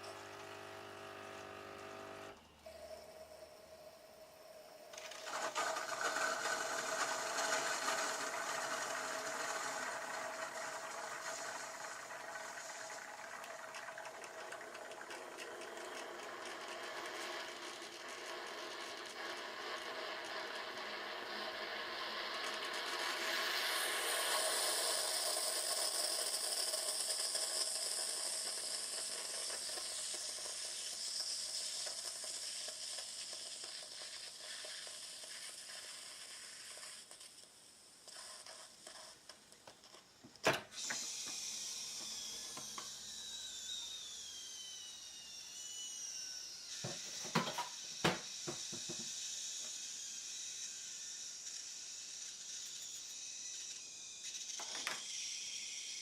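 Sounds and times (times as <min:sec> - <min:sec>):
coffee machine hissing steam: 0:00.0 - 0:56.0.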